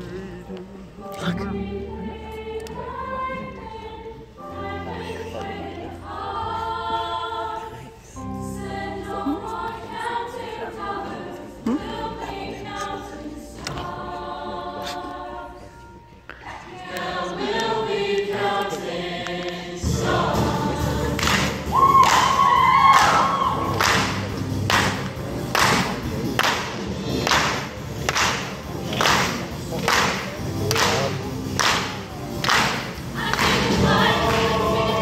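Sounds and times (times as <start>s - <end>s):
choir singing in harmony: 0.0s - 35.0s.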